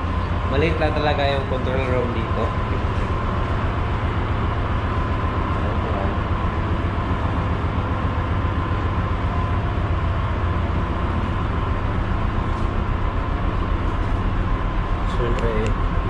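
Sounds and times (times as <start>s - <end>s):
engine room machinery drone: 0.0s - 16.0s.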